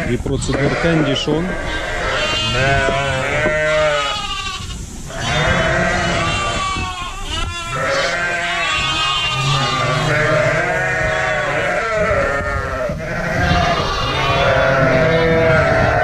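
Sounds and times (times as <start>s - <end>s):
sheep and lambs bleating: 0.0s - 16.0s.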